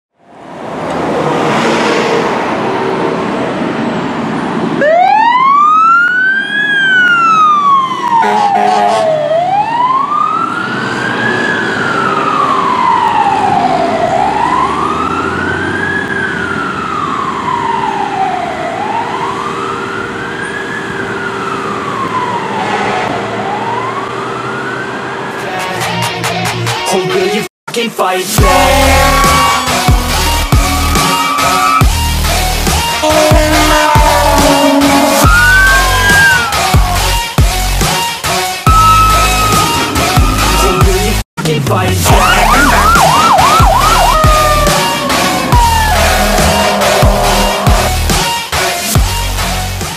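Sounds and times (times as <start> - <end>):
truck and traffic noise: 0.1 - 27.4, 28.3 - 49.9
fire engine siren wailing: 0.4 - 25.9, 28.4 - 41.2, 42.0 - 49.6.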